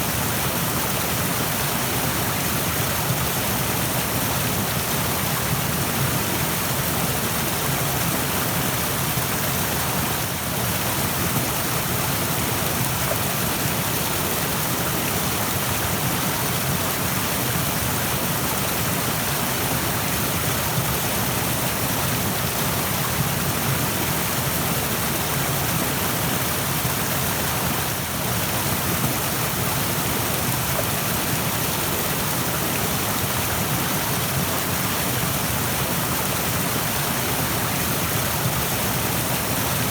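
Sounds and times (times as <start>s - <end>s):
rushing stream: 0.0s - 39.9s.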